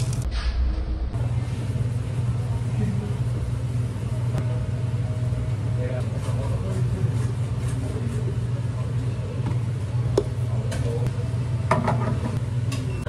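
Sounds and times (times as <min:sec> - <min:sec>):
low hum of machinery: 0:00.0 - 0:13.0.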